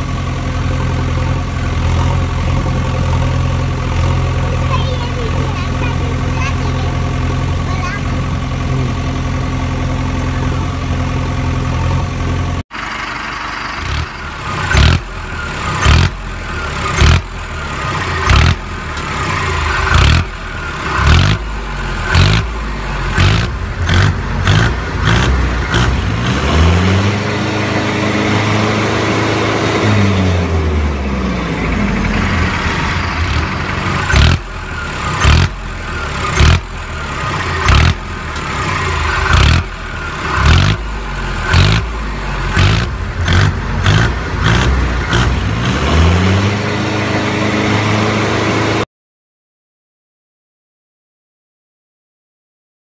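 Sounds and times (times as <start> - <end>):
vehicle engine revving: 0.0 - 48.9.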